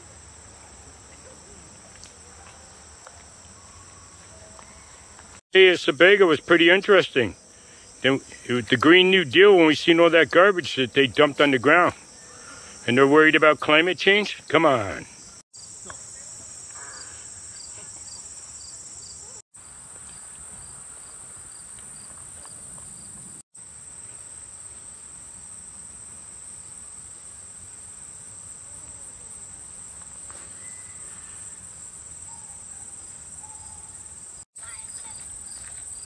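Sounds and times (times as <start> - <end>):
crickets trilling: 0.0 - 36.0
insect chirping: 0.0 - 36.0.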